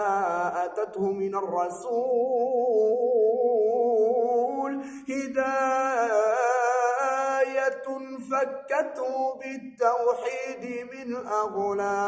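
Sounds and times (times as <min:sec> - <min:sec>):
man singing devotional hymn: 0:00.0 - 0:12.0.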